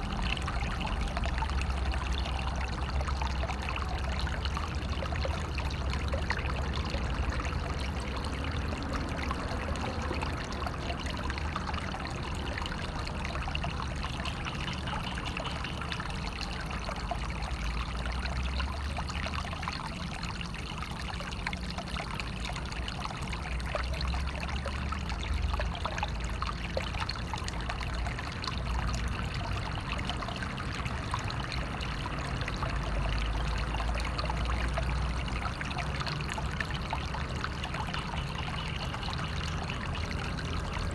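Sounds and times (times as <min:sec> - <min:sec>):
flowing water trickling: 0:00.0 - 0:40.9.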